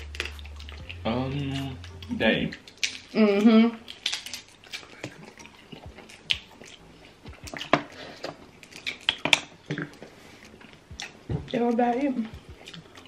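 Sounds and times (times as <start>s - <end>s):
wet chewing smacks and clicks: 0.0s - 13.0s.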